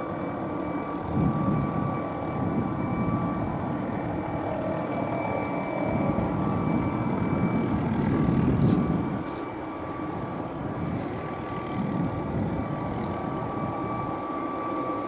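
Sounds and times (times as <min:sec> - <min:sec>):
faint turbine whine: 0:00.0 - 0:15.0
helicopter rumble: 0:00.0 - 0:15.0.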